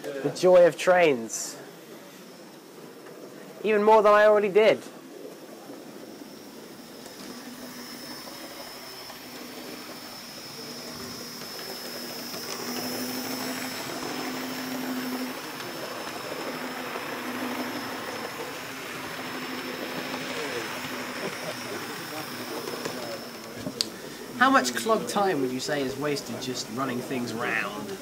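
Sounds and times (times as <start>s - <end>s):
electric motor hum: 0.5s - 28.0s
wheels running on rail: 1.6s - 28.0s.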